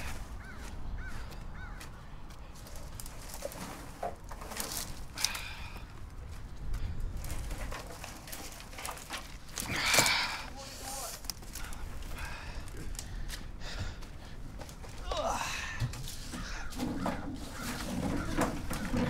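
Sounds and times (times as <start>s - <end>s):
branches rustling and crackling: 0.0s - 15.3s, 15.9s - 19.0s.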